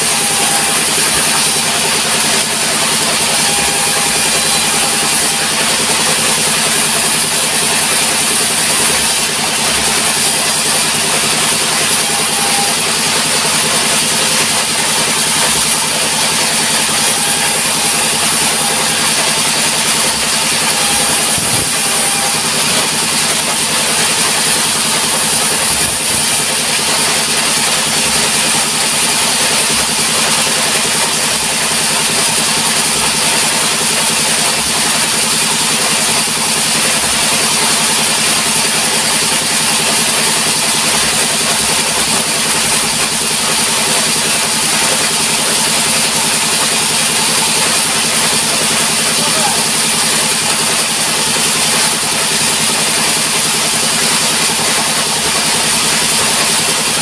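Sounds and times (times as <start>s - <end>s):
band saw running: 0.0s - 57.0s.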